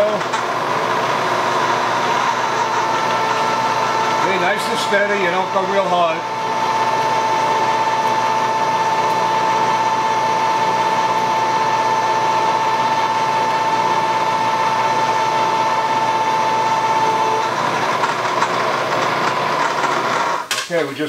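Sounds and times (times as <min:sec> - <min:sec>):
milling machine drilling metal: 0:00.0 - 0:20.5.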